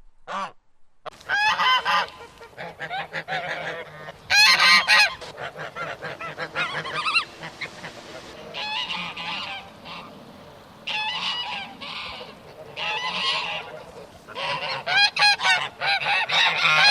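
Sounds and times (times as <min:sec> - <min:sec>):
geese honking and cackling: 0:01.1 - 0:16.9.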